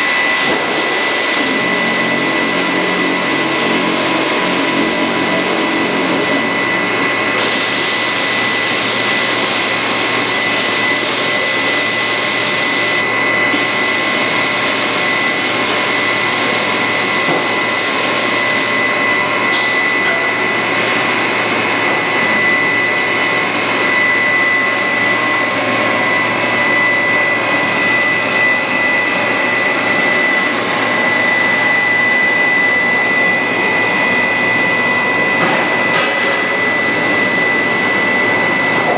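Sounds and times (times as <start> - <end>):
high machinery whine: 0.0 - 38.9.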